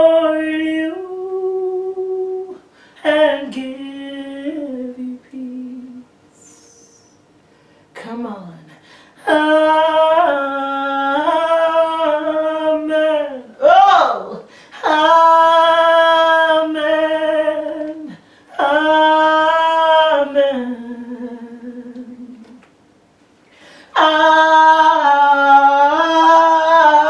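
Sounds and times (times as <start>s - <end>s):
woman singing a cappella: 0.0s - 7.2s, 8.0s - 22.7s, 23.8s - 27.0s.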